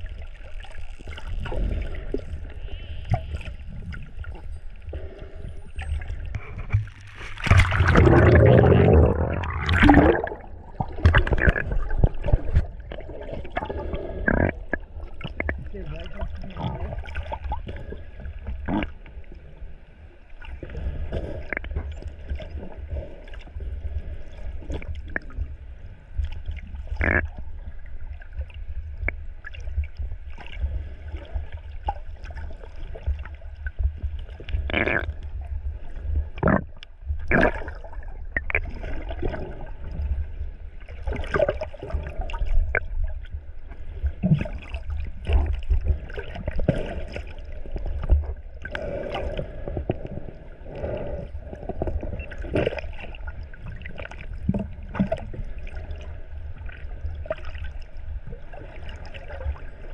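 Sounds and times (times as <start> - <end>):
underwater rumble of moving water: 0.0 - 59.9
water gurgles: 0.0 - 59.9.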